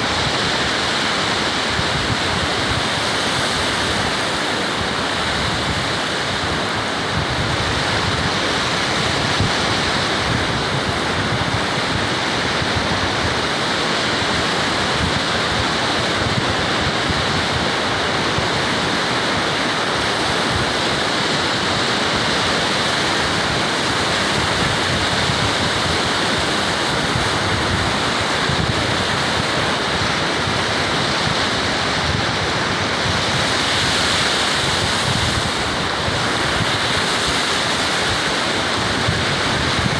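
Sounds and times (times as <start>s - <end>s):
ocean surf: 0.0s - 39.9s
wind buffeting microphone: 0.0s - 39.9s.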